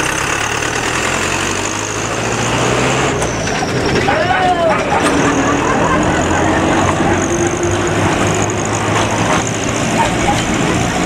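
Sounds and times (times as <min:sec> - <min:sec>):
railcar engine drone: 0:00.0 - 0:11.0.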